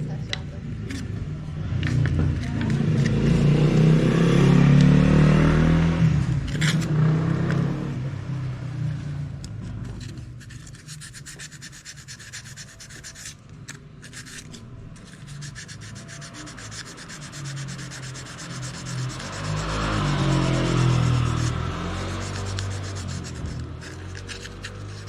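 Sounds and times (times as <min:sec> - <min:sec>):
abrasive scrubbing of brake part: 0:00.0 - 0:04.8, 0:06.3 - 0:08.0, 0:09.4 - 0:25.0.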